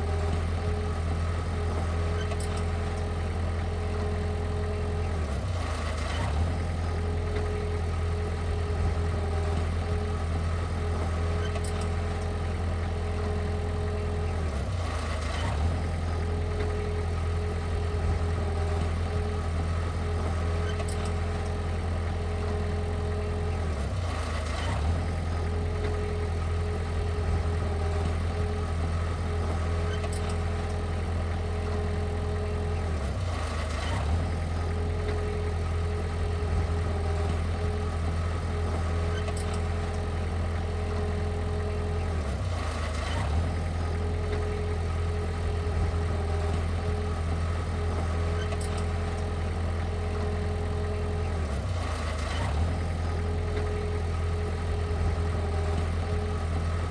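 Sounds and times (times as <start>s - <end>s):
diesel engine droning: 0.0s - 56.9s.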